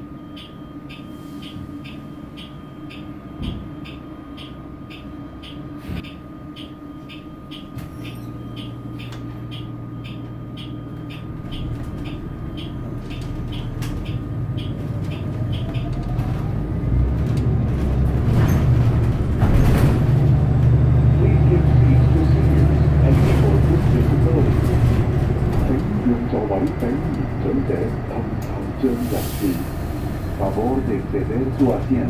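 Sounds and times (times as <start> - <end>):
bus accelerating: 0.0 - 32.0
steady ticking: 0.1 - 19.3, 20.6 - 32.0.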